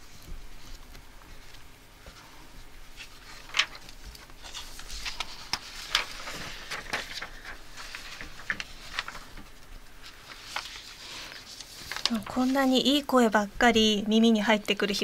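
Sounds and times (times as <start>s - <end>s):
paper rustling: 0.0s - 13.4s.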